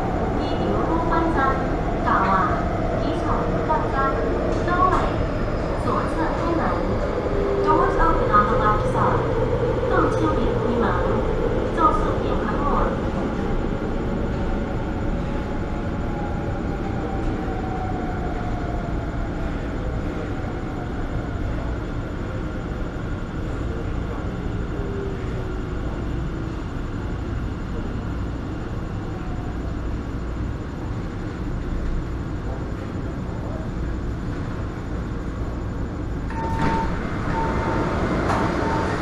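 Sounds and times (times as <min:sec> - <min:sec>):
train rumble and rolling noise: 0:00.0 - 0:39.0.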